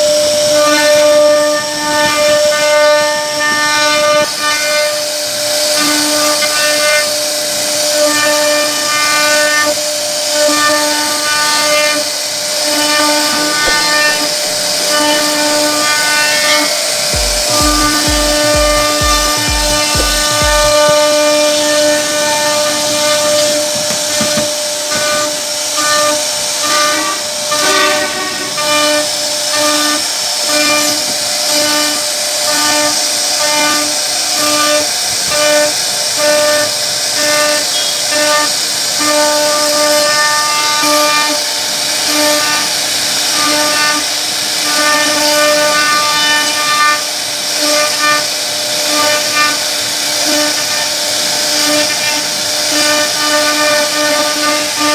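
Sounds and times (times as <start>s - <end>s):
hiss of cutter in wood: 0.0s - 54.9s
router spindle whining: 0.0s - 54.9s.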